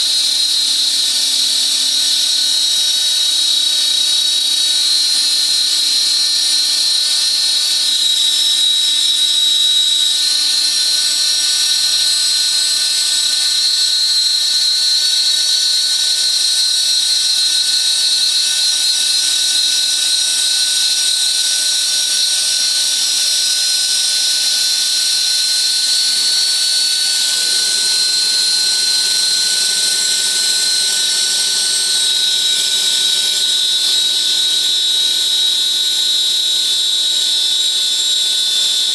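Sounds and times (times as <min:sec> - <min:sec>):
router spindle high-pitched whine: 0:00.0 - 0:38.9.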